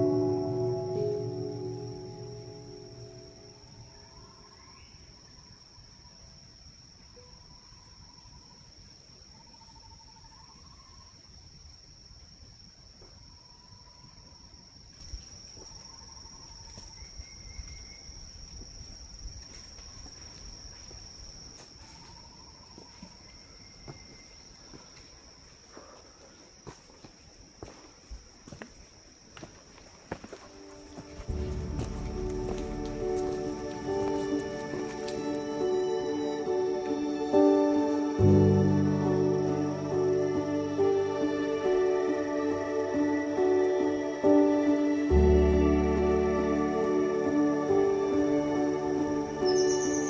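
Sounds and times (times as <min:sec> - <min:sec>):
insects chirring: 0:00.0 - 0:50.0.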